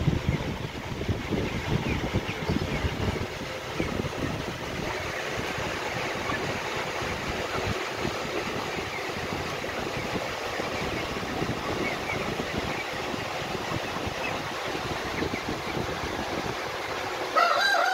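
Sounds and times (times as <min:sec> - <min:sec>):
wind buffeting microphone: 0:00.0 - 0:17.4.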